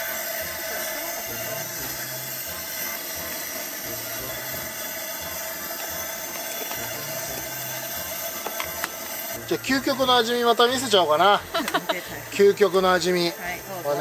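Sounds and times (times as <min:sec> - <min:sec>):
gas stove burner hissing: 0:00.0 - 0:14.0
stew boiling: 0:00.0 - 0:14.0.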